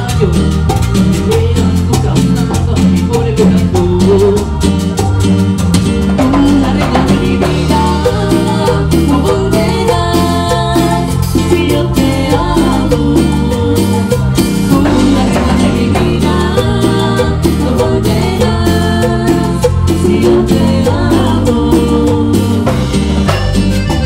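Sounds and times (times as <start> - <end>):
person singing: 0.0 - 5.3, 6.0 - 24.0
bass: 0.0 - 24.0
drums: 0.0 - 24.0
synthesizer keyboard melody: 0.0 - 24.0.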